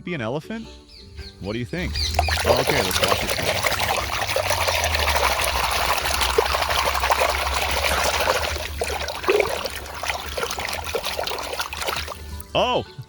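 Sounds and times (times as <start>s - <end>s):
running water splashing: 1.4s - 12.6s.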